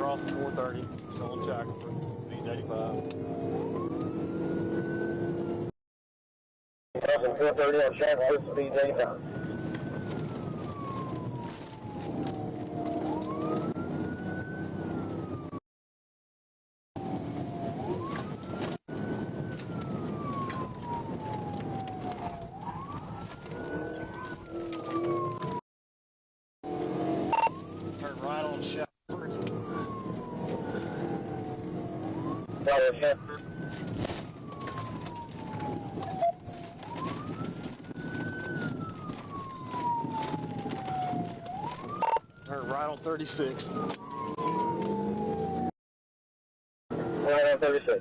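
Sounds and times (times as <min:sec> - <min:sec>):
engine and road noise: 0:00.0 - 0:05.7, 0:07.0 - 0:15.6, 0:17.0 - 0:25.6, 0:26.6 - 0:45.7, 0:46.9 - 0:48.0
police siren wailing: 0:00.0 - 0:05.7, 0:07.0 - 0:15.6, 0:17.0 - 0:25.6, 0:26.6 - 0:45.7, 0:46.9 - 0:48.0.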